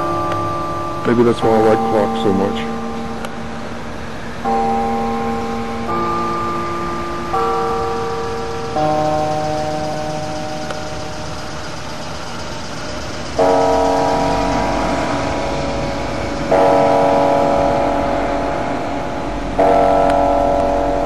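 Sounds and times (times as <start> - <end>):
tower bell tolling: 0.0 - 21.0.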